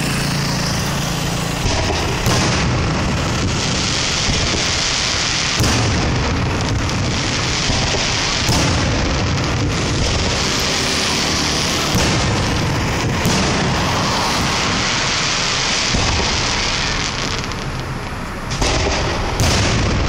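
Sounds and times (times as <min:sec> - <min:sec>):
firework crackle and hiss: 0:00.0 - 0:20.0
firework booms: 0:01.4 - 0:20.0.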